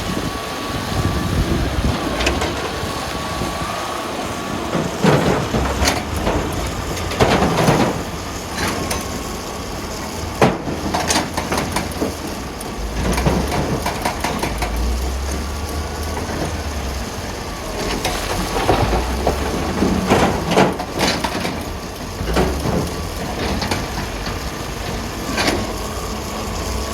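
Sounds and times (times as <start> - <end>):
diesel engine rumbling: 0.0 - 26.9.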